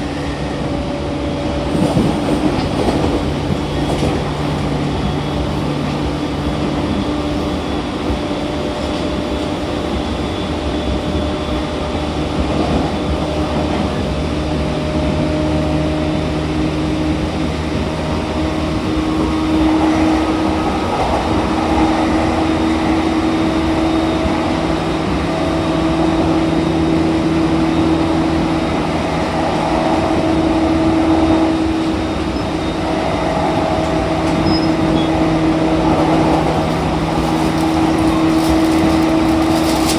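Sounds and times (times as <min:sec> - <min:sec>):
train rail rolling noise: 0:00.0 - 0:39.9.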